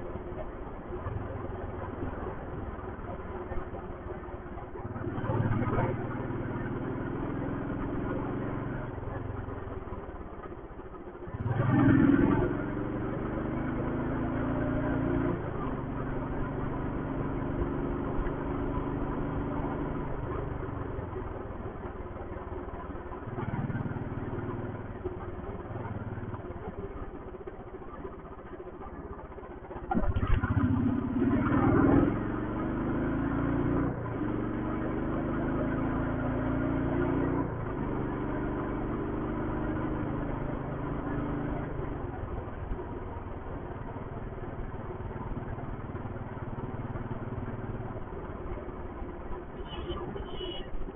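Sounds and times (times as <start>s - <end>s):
motorcycle engine revving: 0.0s - 10.4s, 11.2s - 50.9s.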